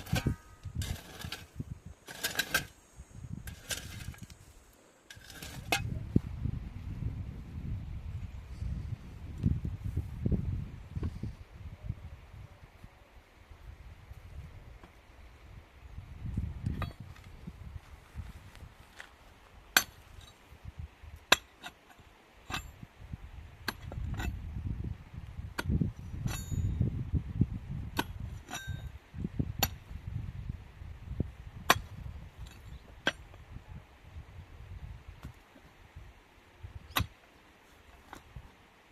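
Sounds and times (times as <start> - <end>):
wind rumble on microphone: 0.0 - 21.4, 22.4 - 37.2, 38.0 - 38.7.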